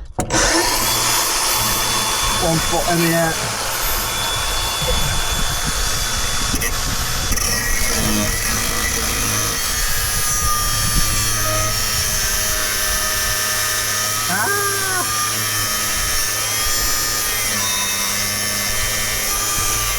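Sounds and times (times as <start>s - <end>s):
angle grinder cutting metal: 0.2s - 19.9s.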